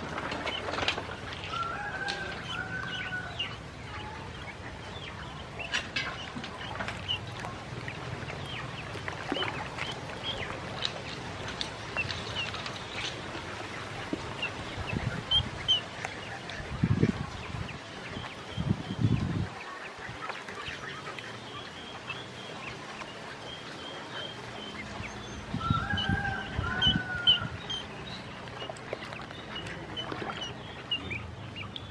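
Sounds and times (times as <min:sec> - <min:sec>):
ducklings peeping: 0:00.0 - 0:31.9.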